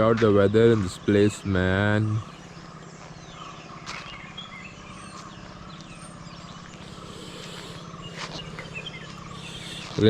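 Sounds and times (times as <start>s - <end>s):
birds chirping: 0.0s - 10.0s
pulsing mechanical hum: 0.0s - 10.0s.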